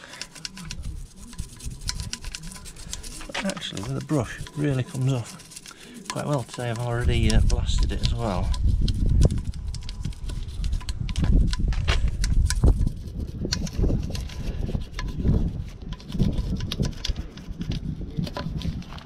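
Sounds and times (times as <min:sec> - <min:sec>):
brush scrubbing wheel: 0:00.0 - 0:19.0.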